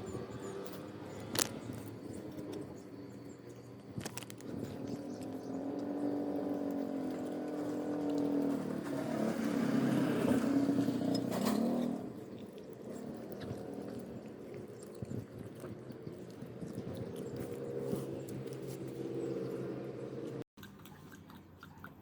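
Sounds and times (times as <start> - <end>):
vehicle engine running: 0.0 - 20.5.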